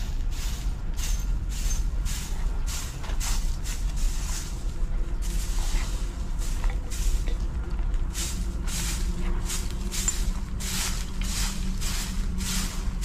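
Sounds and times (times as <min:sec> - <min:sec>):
broom sweeping dry leaves: 0:00.0 - 0:13.0
low rumble: 0:00.0 - 0:13.0.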